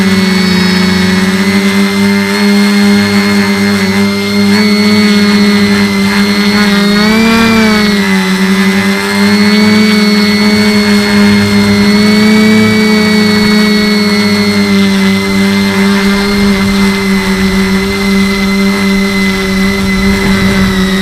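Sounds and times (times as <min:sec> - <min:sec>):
quadcopter motors buzzing whine: 0:00.0 - 0:21.0.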